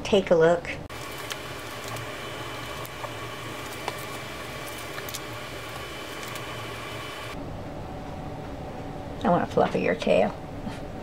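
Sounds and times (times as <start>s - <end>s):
faint hum: 0.7s - 11.0s.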